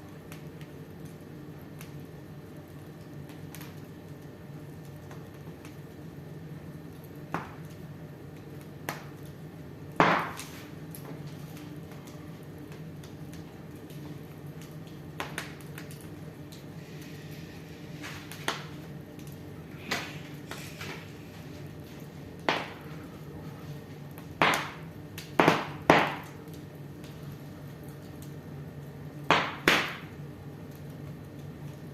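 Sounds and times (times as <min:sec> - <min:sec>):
steady low hum: 0:00.0 - 0:31.9
wood fire crackling: 0:00.0 - 0:31.9.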